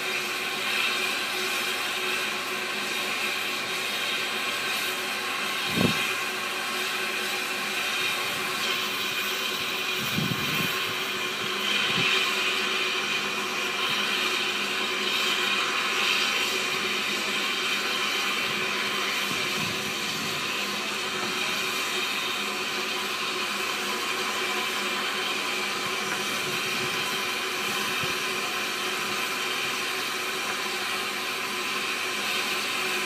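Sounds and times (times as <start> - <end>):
steam hiss from locomotive: 0.0 - 33.0.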